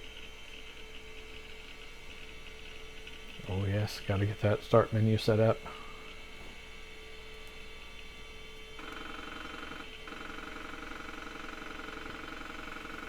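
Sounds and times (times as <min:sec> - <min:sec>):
computer low hum: 0:00.0 - 0:13.0.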